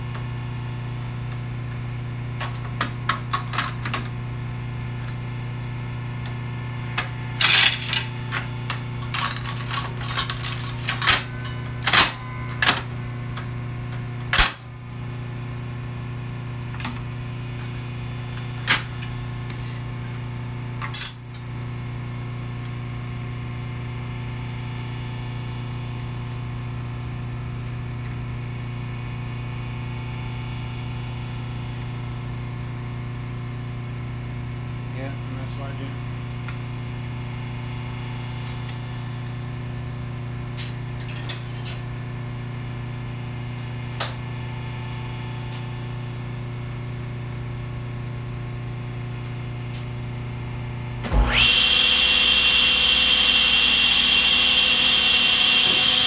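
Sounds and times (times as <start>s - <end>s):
steady low hum: 0.0s - 51.4s.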